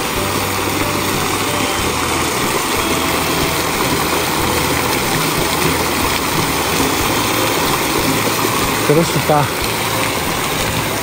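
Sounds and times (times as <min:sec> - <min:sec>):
fountain jet rushing and splashing: 0:00.0 - 0:11.0.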